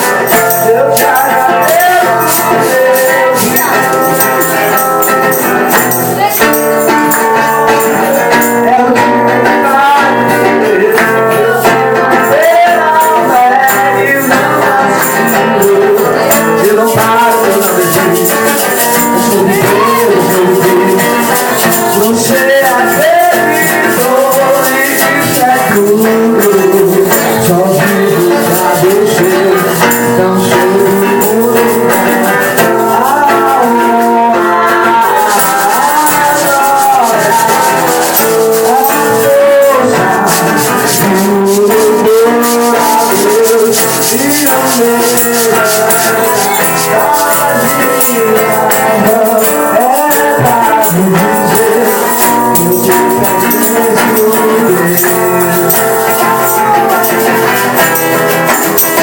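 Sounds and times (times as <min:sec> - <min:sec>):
guitar: 0:00.0 - 0:59.0
shaker rhythm: 0:00.0 - 0:59.0
voices singing: 0:00.0 - 0:59.0.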